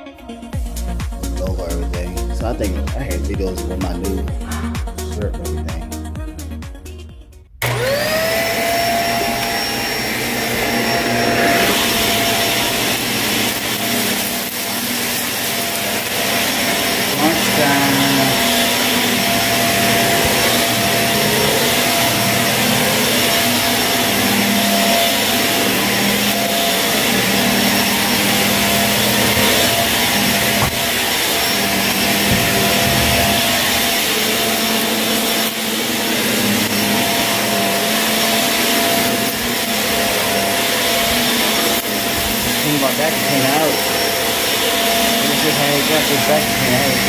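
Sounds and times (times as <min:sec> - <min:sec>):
vacuum cleaner motor whine: 0:07.6 - 0:47.0.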